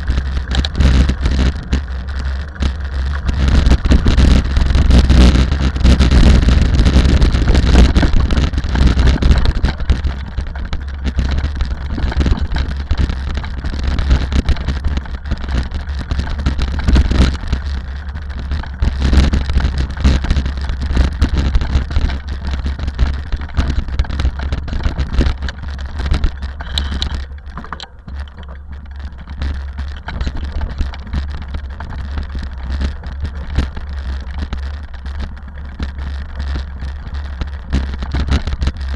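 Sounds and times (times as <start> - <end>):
rally car engine at speed: 0.0 - 38.9
steady low rumble: 0.0 - 38.9.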